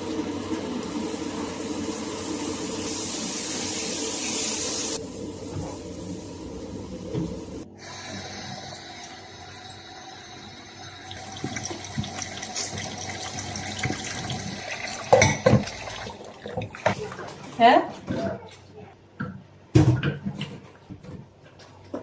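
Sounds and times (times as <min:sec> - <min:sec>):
water running: 0:00.0 - 0:18.6.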